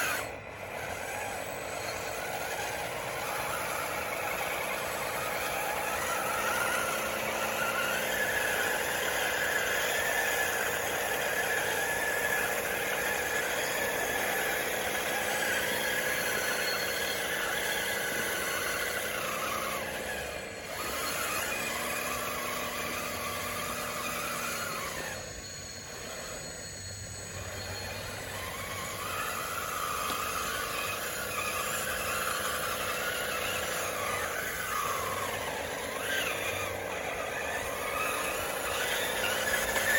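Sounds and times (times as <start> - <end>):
toy bulldozer electric motor whining: 0.0 - 39.9.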